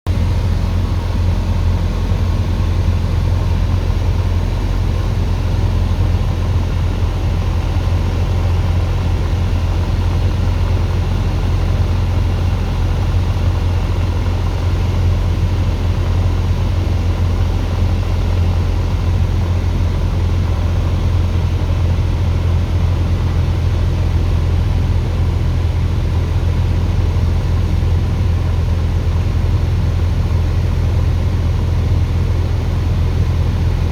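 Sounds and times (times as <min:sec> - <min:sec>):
aircraft piston engine droning: 0:00.1 - 0:33.9.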